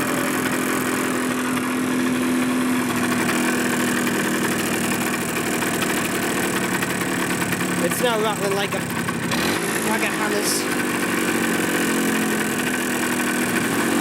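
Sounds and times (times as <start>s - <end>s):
rattling two-stroke engine running: 0.0s - 14.0s.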